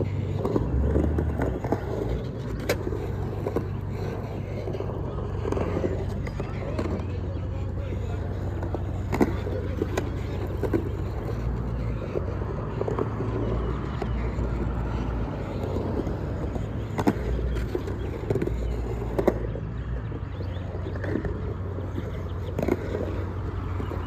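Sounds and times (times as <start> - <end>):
skateboard clacks: 0.0 - 24.0
skateboard wheels rolling on concrete: 0.0 - 24.0.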